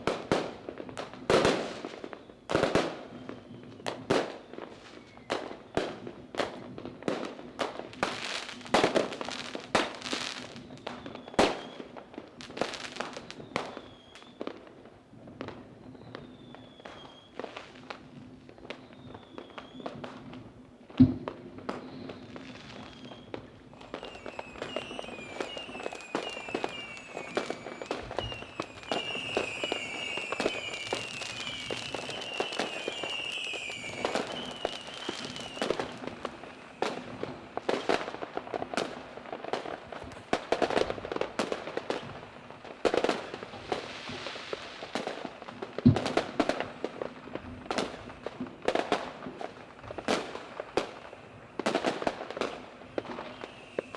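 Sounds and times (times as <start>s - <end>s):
fireworks bangs and crackling pops: 0.0s - 53.9s
falling firework whistles: 1.3s - 6.7s, 8.0s - 14.6s, 15.5s - 17.8s, 18.6s - 20.3s, 21.7s - 53.9s.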